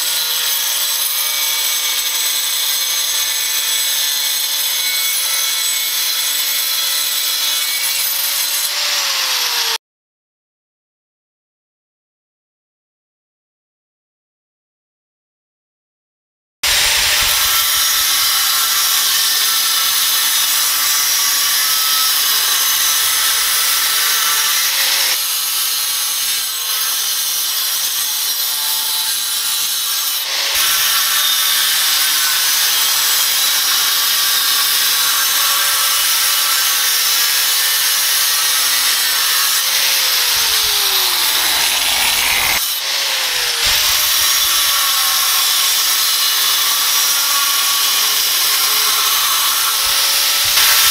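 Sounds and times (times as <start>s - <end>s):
angle grinder cutting sheet metal: 0.0s - 9.8s, 16.6s - 50.9s.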